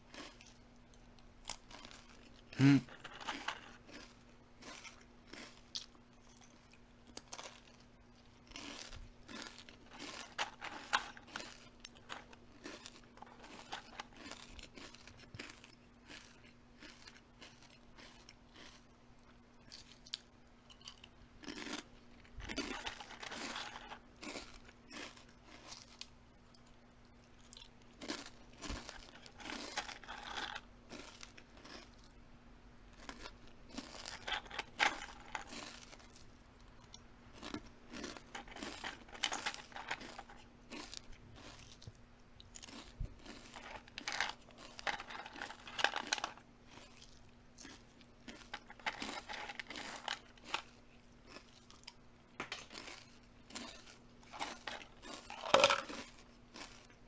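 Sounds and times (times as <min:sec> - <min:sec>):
crunchy food being chewed: 0:00.0 - 0:32.2, 0:32.9 - 0:57.0.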